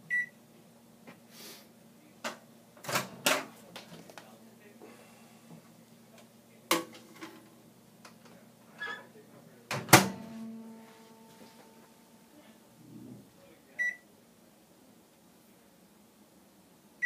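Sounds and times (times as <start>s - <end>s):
microwave hum: 1.8s - 17.0s.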